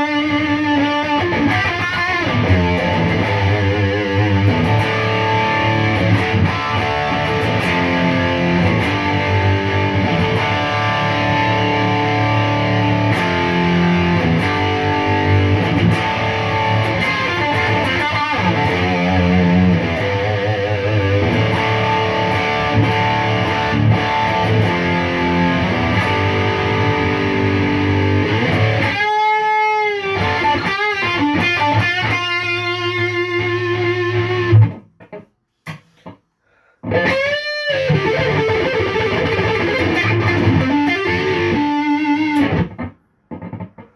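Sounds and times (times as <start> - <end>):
distorted electric guitar: 0.0 - 36.2, 36.8 - 43.9.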